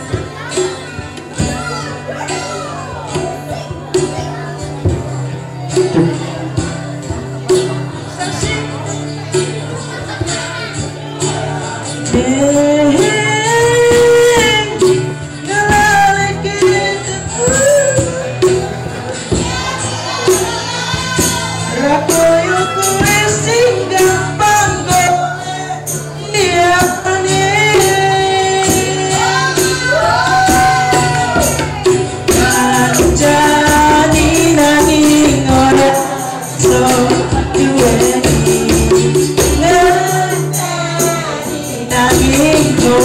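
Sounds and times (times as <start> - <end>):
strummed acoustic guitar: 0.0 - 43.0
hand percussion with jingles: 0.1 - 43.0.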